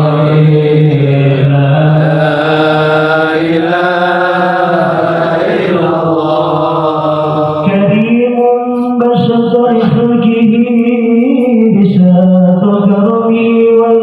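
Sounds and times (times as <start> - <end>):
devotional chanting: 0.0 - 14.0.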